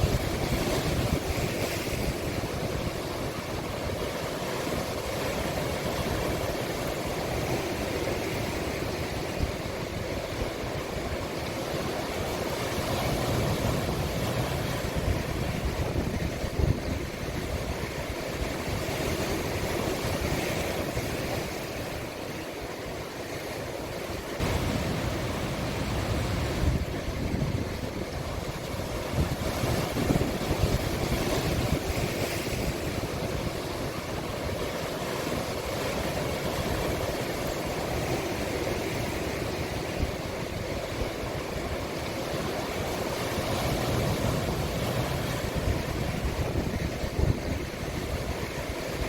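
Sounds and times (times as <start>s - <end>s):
wind buffeting microphone: 0.0s - 11.3s, 12.3s - 22.3s, 24.4s - 34.8s, 35.4s - 49.0s
sea waves breaking: 0.0s - 49.0s.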